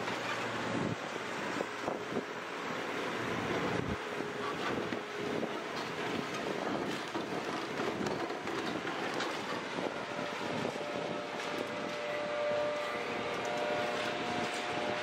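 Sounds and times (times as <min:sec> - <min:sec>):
excavator engine and hydraulics: 0:00.0 - 0:15.0
steady whine: 0:00.0 - 0:15.0.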